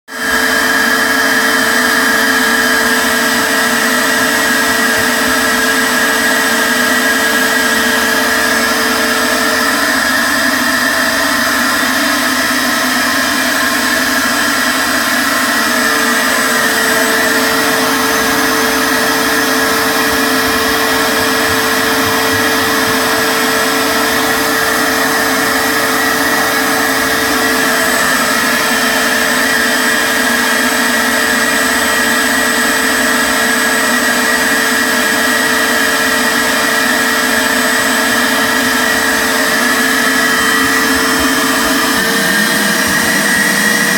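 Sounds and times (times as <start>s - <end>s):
shop vacuum whining: 0.1s - 43.9s.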